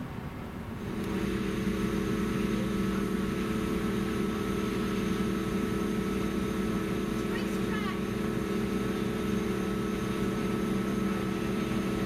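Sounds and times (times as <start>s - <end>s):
ship machinery droning hum: 0.0s - 12.0s.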